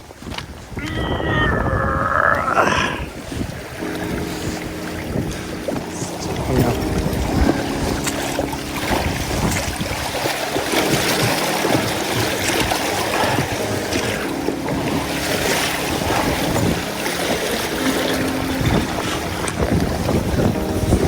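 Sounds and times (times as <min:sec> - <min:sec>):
water rushing and lapping: 0:00.0 - 0:21.0
wind gusting on microphone: 0:00.0 - 0:21.0.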